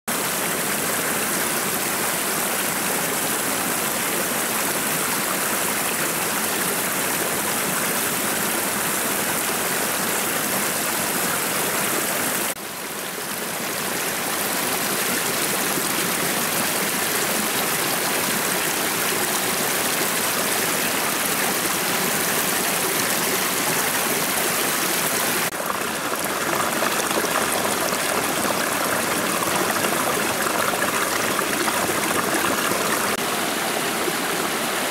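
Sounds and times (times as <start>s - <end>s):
flowing stream rushing: 0.1s - 34.9s.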